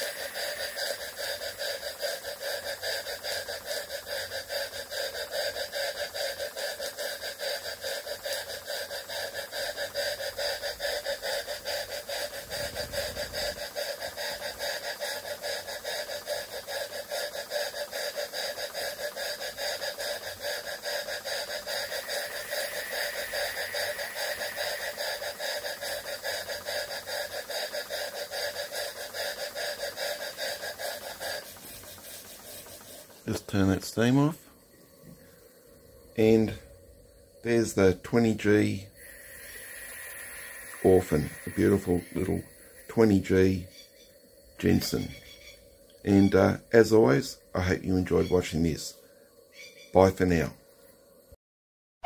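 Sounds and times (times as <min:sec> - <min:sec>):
steam hissing: 0:00.0 - 0:45.3
steam engine exhaust puffs: 0:00.0 - 0:48.2.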